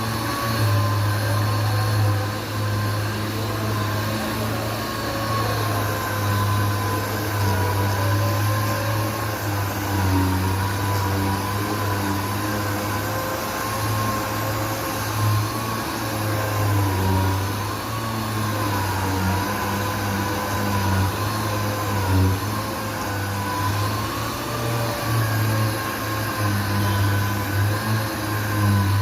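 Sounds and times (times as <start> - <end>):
orbital sander whining: 0.0 - 29.0.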